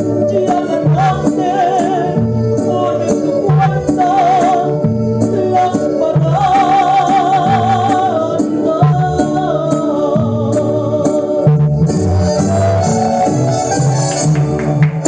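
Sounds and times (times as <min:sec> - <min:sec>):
woman singing with vibrato: 0:00.0 - 0:14.1
rhythmic band accompaniment: 0:00.0 - 0:15.0.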